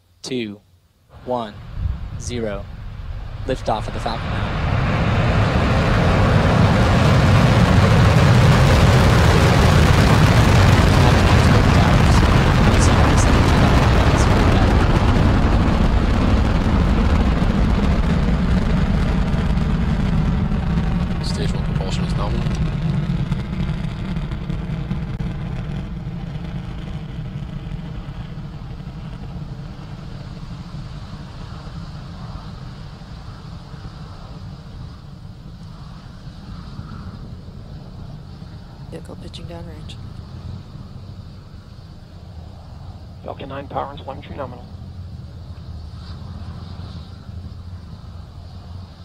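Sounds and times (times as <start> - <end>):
rocket engine rumble: 1.1 - 49.0.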